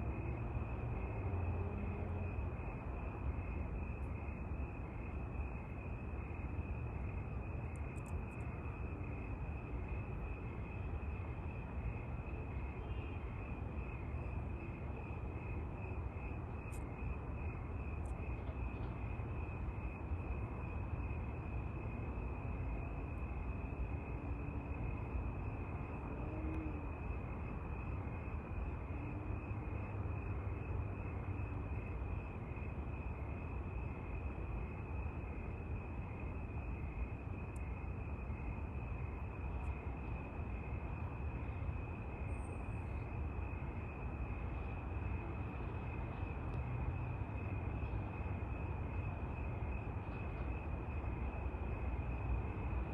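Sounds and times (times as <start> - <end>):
low rumble of distant traffic: 0.0 - 52.9.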